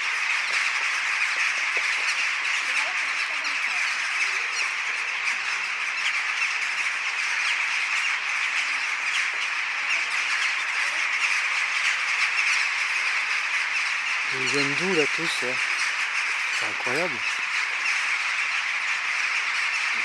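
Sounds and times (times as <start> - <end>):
flock of birds squawking: 0.0 - 20.0.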